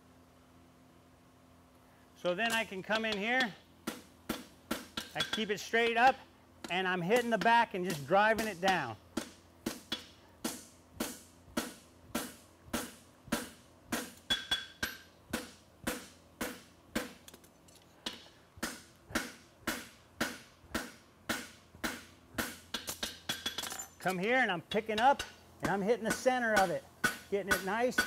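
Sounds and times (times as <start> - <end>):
hammer striking horseshoe on anvil: 2.4 - 28.0.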